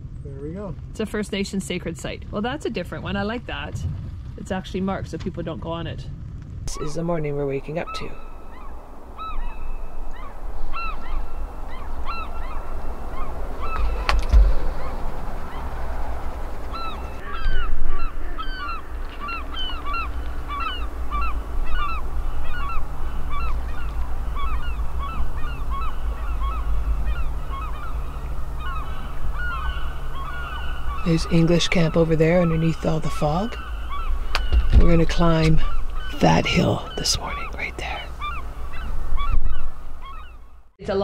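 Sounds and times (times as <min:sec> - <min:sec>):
steady low rumble: 0:00.0 - 0:41.0
geese honking: 0:06.7 - 0:40.7.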